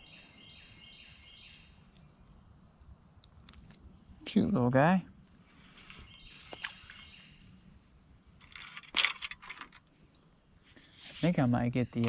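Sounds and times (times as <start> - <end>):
crickets droning: 0.0 - 12.0.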